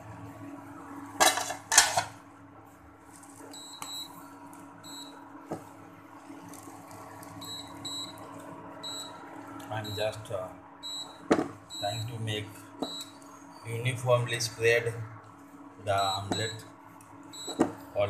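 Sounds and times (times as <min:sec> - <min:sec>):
induction heater hum and whine: 0:00.0 - 0:18.0.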